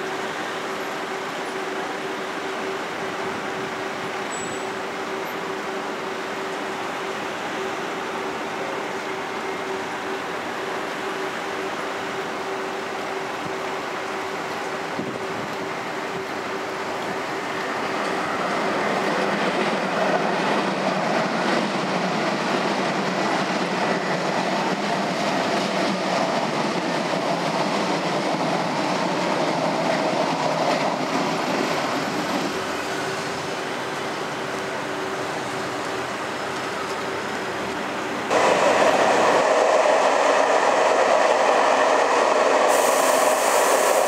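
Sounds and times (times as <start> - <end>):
train rolling past: 0.0 - 44.0.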